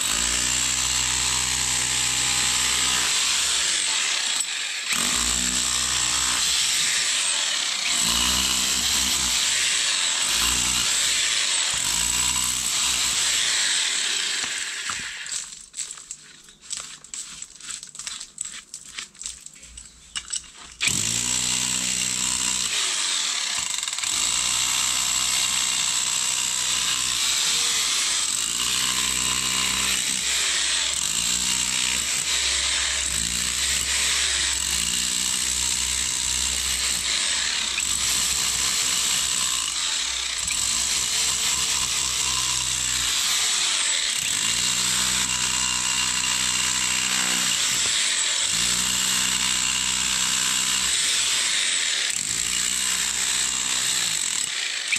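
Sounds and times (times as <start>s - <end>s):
hammer drill chipping concrete: 0.0s - 19.0s, 20.2s - 54.9s.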